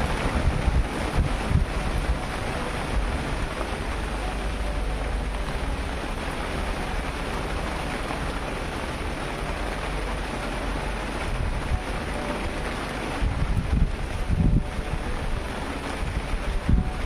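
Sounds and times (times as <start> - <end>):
rain pattering on roofs: 0.0 - 17.0.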